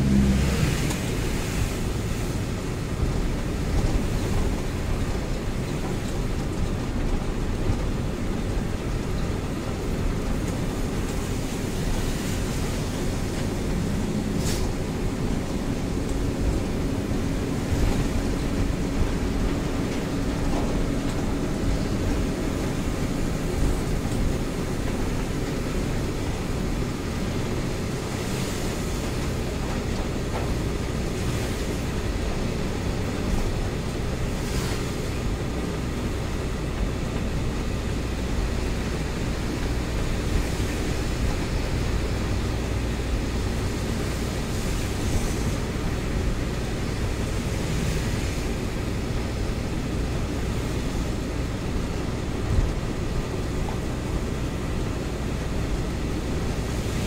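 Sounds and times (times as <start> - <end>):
truck engine and tyre noise: 0.0 - 57.0.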